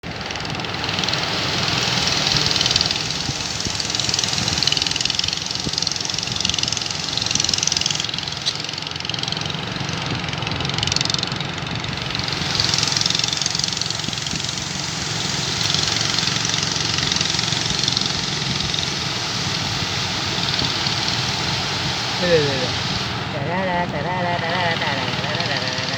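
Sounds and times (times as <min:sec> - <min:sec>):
boat engine running: 0:00.0 - 0:25.9
wind and water rushing: 0:00.1 - 0:10.8, 0:11.5 - 0:25.9.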